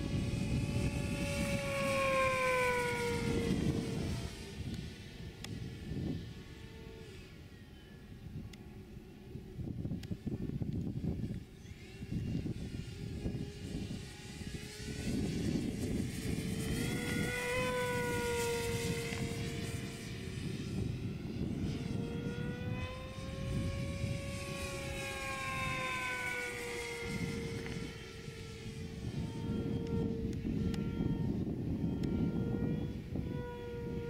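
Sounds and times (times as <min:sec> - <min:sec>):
model plane motor whining: 0:00.0 - 0:34.0.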